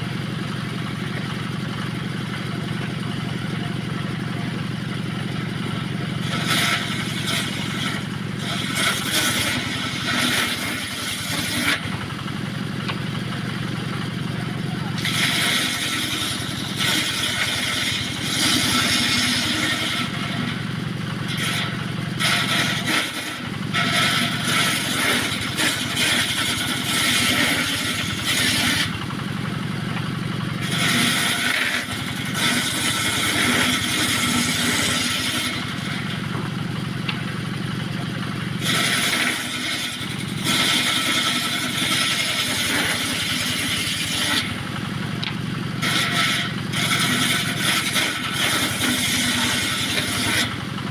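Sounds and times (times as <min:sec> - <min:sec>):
circular saw cutting wood: 0:00.0 - 0:50.9
engine hum: 0:00.0 - 0:50.9.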